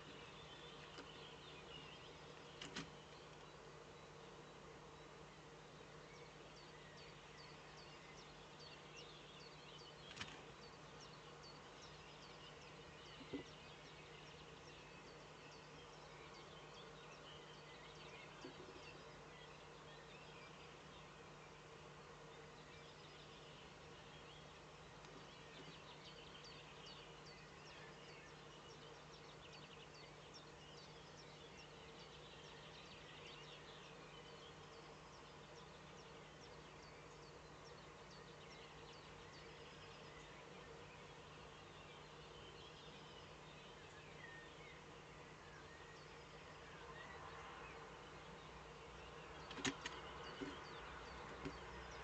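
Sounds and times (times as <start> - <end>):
distant songbirds chirping: 0.0 - 52.0
low steady hum: 0.0 - 52.0.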